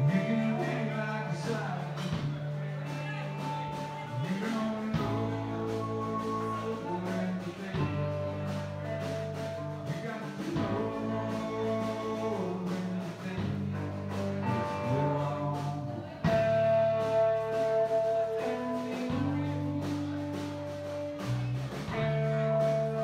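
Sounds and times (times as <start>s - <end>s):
drum kit beat: 0.0s - 23.0s
electric guitars: 0.0s - 23.0s.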